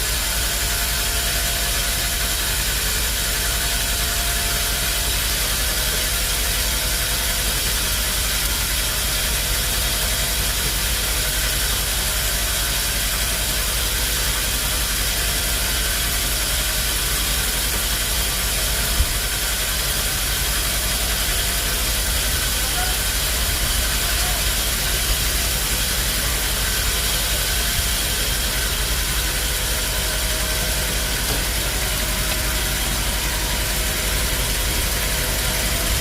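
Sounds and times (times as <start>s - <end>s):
sawmill machinery drone: 0.0s - 36.0s.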